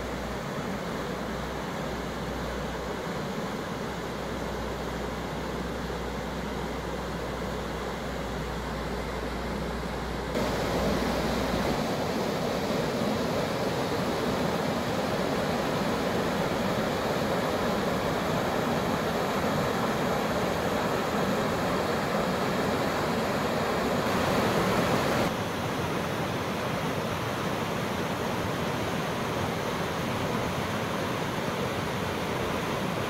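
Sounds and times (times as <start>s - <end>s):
river water rushing over rapids: 0.0s - 33.0s.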